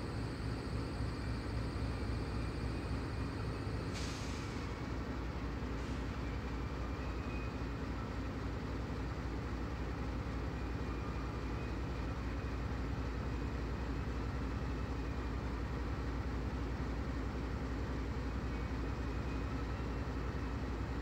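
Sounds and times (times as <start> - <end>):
diesel locomotives idling: 0.0 - 21.0.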